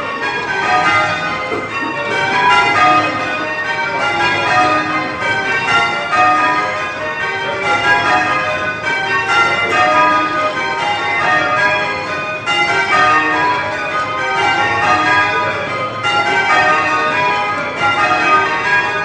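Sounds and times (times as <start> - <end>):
church bells change ringing: 0.0 - 19.0.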